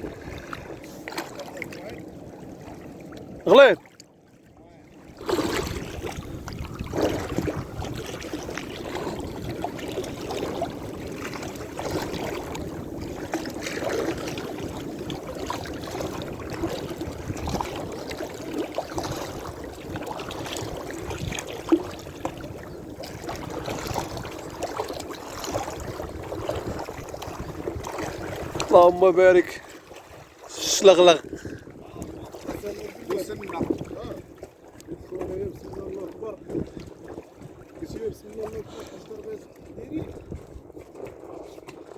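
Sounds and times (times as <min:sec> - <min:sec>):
water lapping against boat: 0:00.0 - 0:41.9.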